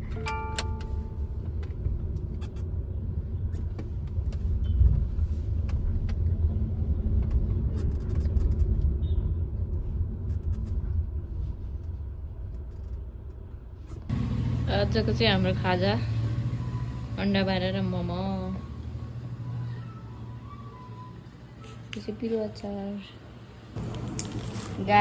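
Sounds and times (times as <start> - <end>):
road and tyre rumble: 0.0 - 25.0.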